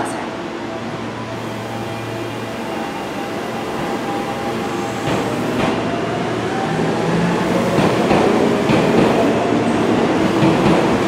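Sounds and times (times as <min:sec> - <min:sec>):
electric train approaching: 0:00.0 - 0:11.0.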